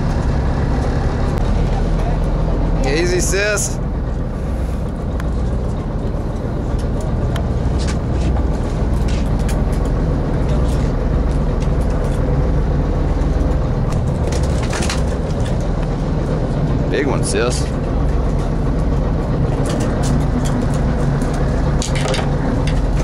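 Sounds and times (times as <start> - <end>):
boat engines idling: 0.0 - 23.0
sea noise: 0.0 - 23.0
wind: 0.0 - 23.0.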